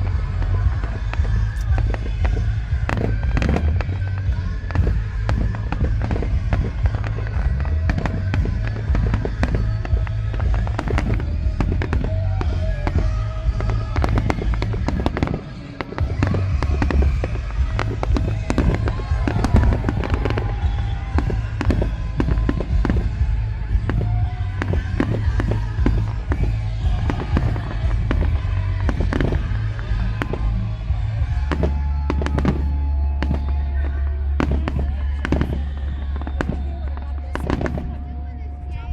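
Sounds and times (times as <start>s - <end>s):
deep rumble of booms: 0.0s - 38.9s
fireworks bangs and crackles: 0.0s - 38.9s
music playing: 0.0s - 38.9s.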